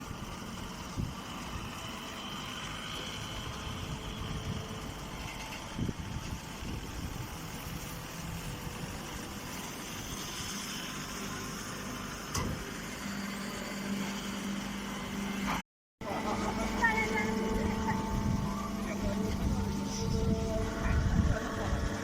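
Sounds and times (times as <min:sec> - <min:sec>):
baler machine motor hum: 0:00.0 - 0:22.0.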